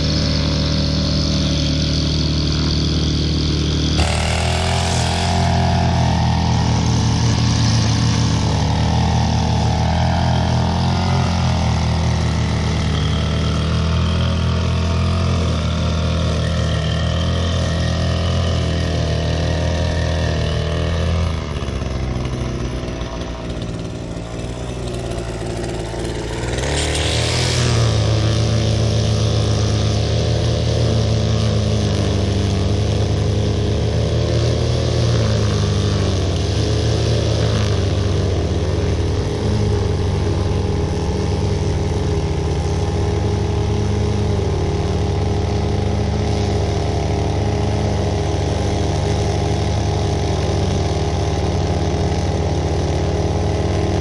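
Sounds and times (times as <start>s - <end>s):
lawn mower engine drone: 0.0s - 54.0s
string trimmer cutting grass: 0.0s - 54.0s.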